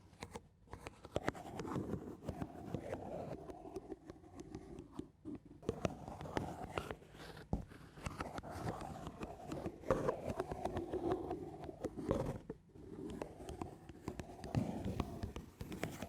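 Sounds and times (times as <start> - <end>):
small clicks and taps: 0.1 - 16.0
soft scratching strokes: 0.8 - 16.0.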